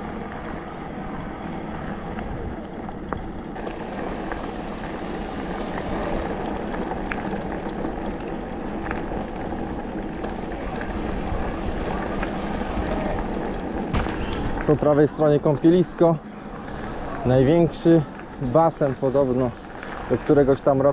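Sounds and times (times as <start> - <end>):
wind rushing over microphone: 0.0 - 18.5
tyres rolling on gravel: 0.0 - 20.9.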